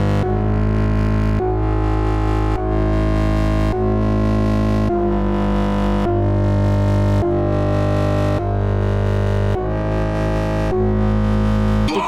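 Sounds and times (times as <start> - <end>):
deep bass: 0.0 - 12.0.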